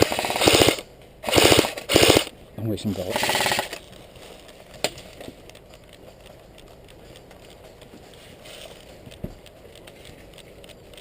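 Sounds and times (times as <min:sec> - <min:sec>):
faint outdoor rustling: 0:00.0 - 0:11.0.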